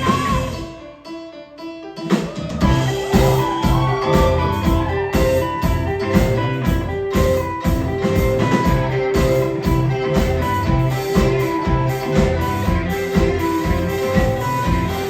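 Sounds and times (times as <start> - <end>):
amplified guitar and bass: 0.0 - 0.8, 2.4 - 15.0
steady drum beat: 2.2 - 15.0.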